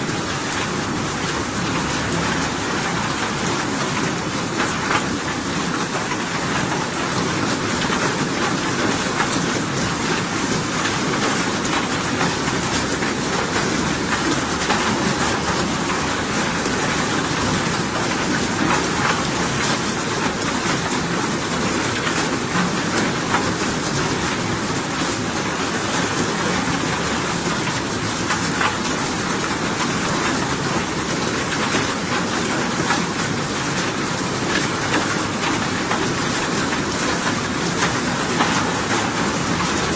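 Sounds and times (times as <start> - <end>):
steady rain falling: 0.0 - 39.9
faint ticks of raindrops: 0.1 - 39.9.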